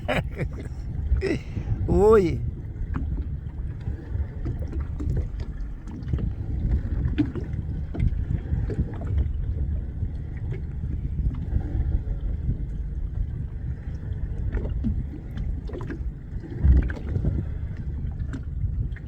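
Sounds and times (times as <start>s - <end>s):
boat engine low rumble: 0.0s - 19.0s
water slapping against hull: 1.4s - 19.0s.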